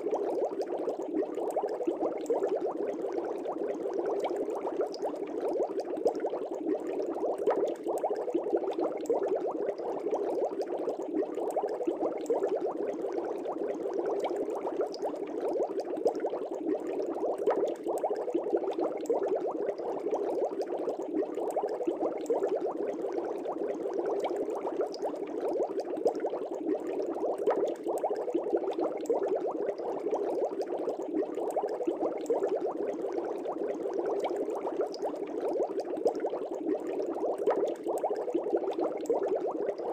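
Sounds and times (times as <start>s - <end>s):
air bubbles in water: 0.0s - 39.9s.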